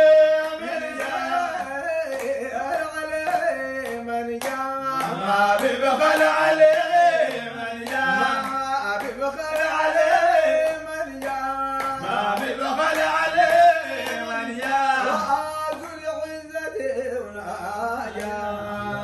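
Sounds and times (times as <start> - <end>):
handclaps: 0.0 - 16.4, 17.9 - 18.5
men singing in unison: 0.0 - 19.0.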